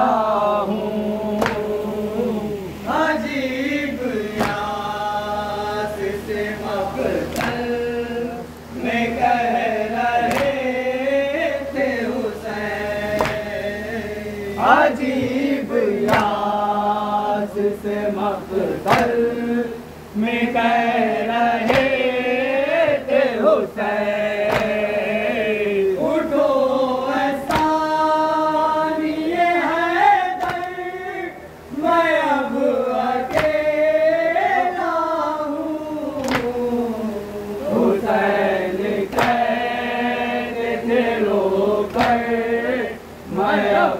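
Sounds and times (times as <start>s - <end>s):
men chanting in unison: 0.0s - 43.9s.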